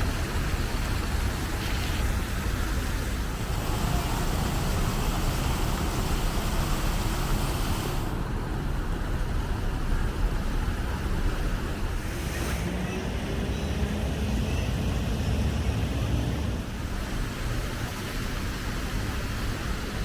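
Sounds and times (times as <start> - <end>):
road traffic rumble and hiss: 0.0 - 20.0.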